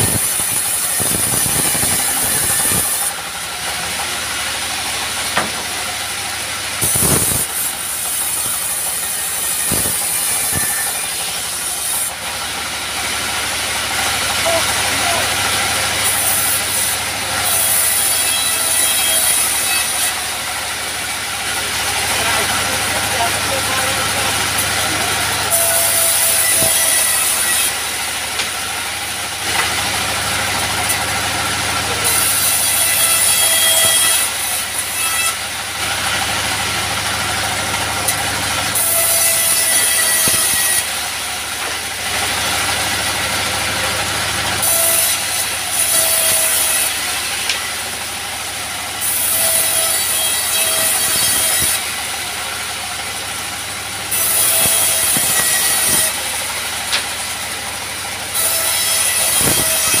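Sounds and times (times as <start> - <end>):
bandsaw cutting wood: 0.0 - 60.0.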